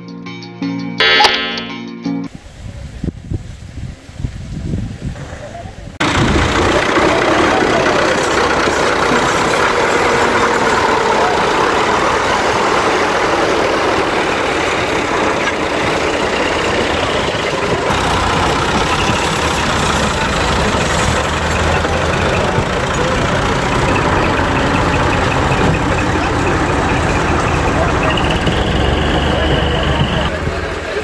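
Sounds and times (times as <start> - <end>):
diesel tractor engines running: 6.0 - 31.0.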